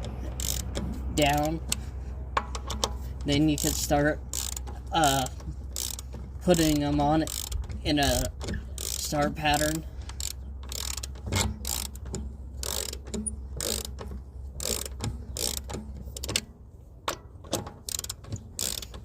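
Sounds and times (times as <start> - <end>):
hand ratchet clicking: 0.0 - 1.8, 2.4 - 16.5, 17.1 - 19.0.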